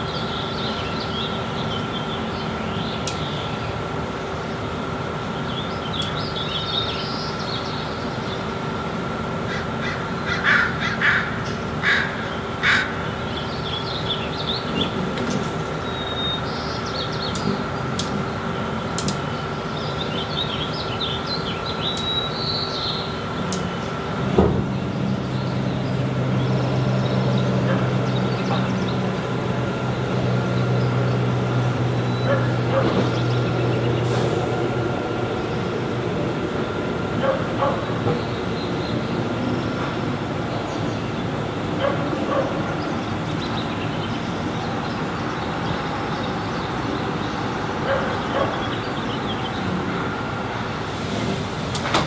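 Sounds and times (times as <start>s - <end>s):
harsh bird calls: 0.0s - 51.3s
steady background hum: 0.0s - 52.0s.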